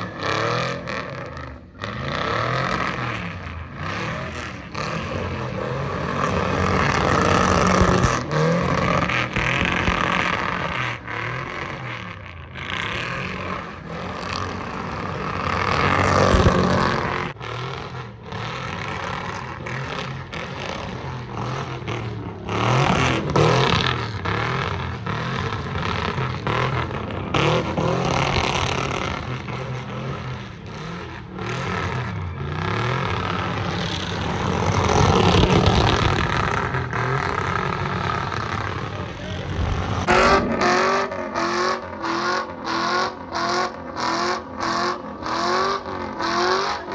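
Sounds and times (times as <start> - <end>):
car engines revving: 0.0 - 46.9
road noise: 0.0 - 46.9.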